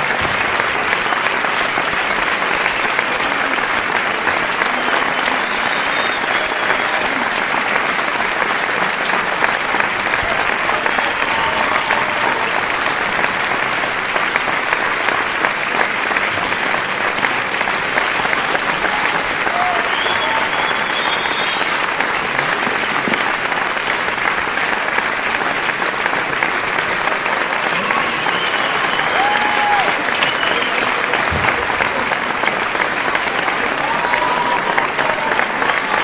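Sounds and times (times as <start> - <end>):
crowd applauding: 0.0 - 36.0.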